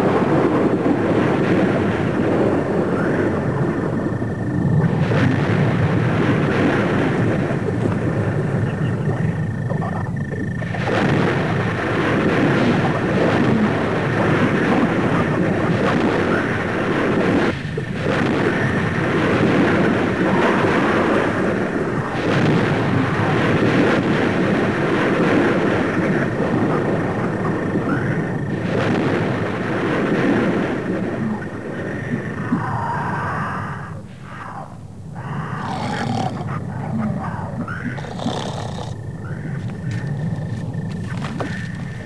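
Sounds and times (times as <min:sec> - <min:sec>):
loud thunder-like rumbling: 0:00.0 - 0:42.0.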